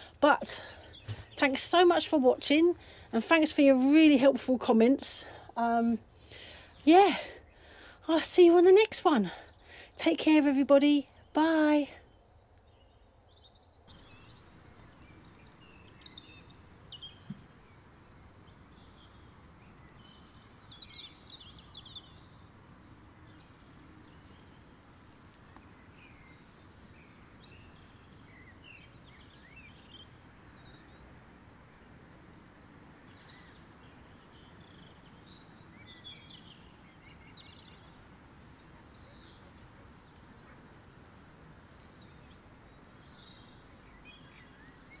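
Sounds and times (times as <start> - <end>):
birds chirping: 0.0 - 31.1, 31.9 - 45.0
outdoor background noise: 0.0 - 45.0.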